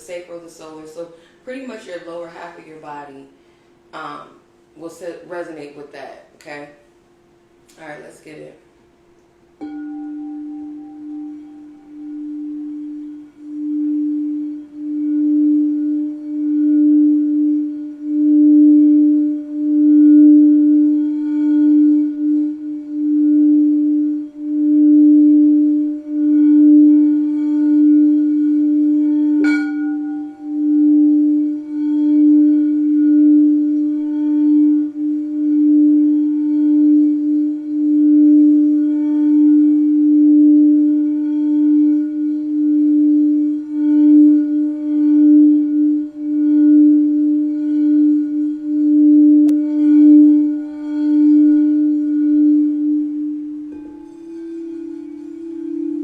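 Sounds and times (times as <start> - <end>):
singing bowl tone: 9.2 - 56.0.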